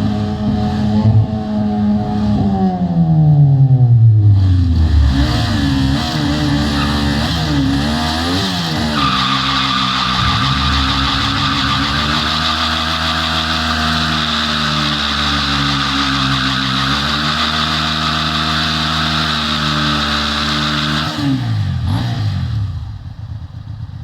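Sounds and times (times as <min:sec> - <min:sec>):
car engine revving and idling: 0:00.0 - 0:23.8.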